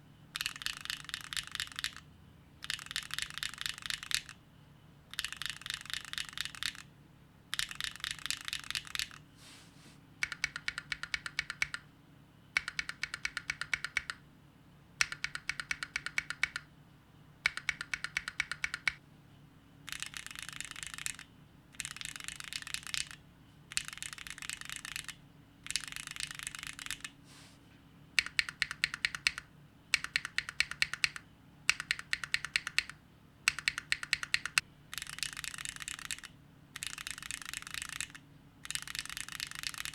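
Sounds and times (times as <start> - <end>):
mechanical keyboard typing: 0.4 - 4.4, 5.1 - 6.9, 7.5 - 9.2, 10.2 - 11.9, 12.6 - 14.2, 15.0 - 16.7, 17.4 - 19.0, 19.9 - 27.2, 28.2 - 39.9.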